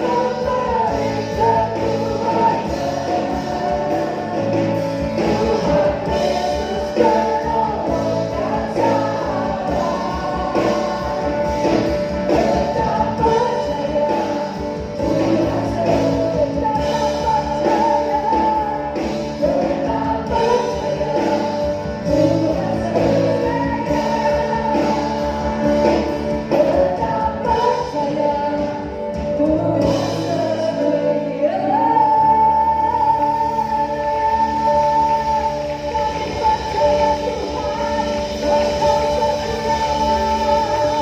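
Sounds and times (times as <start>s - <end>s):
choir singing with band: 0.0s - 41.0s.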